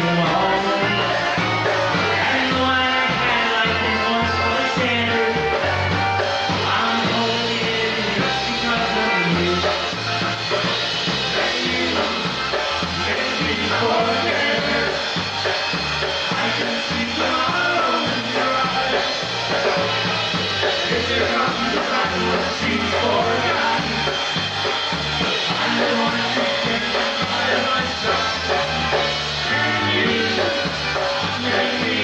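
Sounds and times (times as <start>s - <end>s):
polka band playing: 0.0s - 32.0s.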